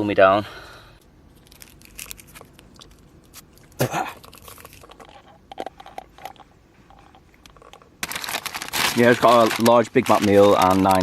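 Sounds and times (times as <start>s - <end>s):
crinkles: 1.4s - 11.0s.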